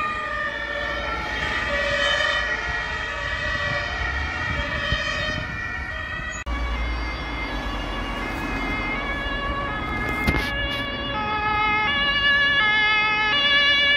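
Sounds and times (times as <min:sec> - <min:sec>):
traffic rumble: 0:00.0 - 0:13.9
two-tone emergency siren: 0:00.0 - 0:13.9.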